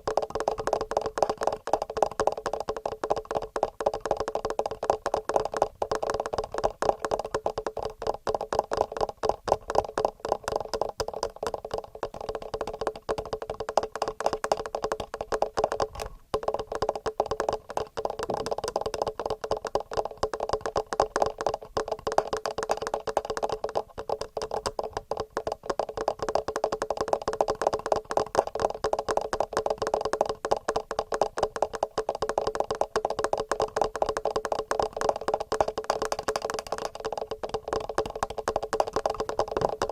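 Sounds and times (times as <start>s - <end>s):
fingernail tapping on microphone: 0.0s - 39.9s.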